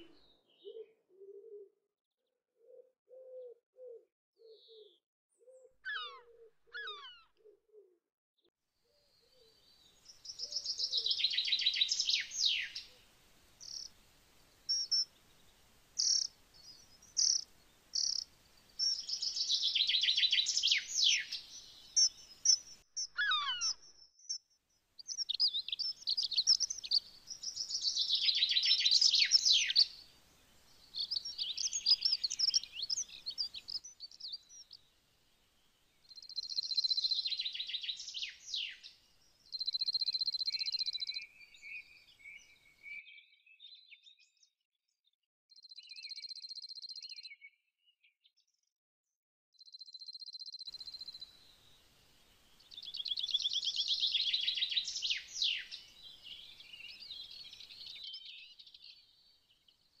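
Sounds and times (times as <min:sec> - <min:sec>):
small birds chirping and trilling: 0:05.5 - 0:07.3, 0:09.2 - 0:13.0, 0:13.6 - 0:34.9, 0:36.0 - 0:44.6, 0:45.5 - 0:48.7, 0:49.6 - 1:00.0.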